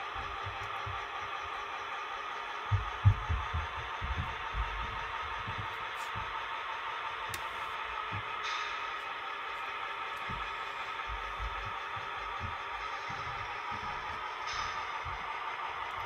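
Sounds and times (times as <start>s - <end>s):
model train locomotive humming: 0.0s - 16.0s.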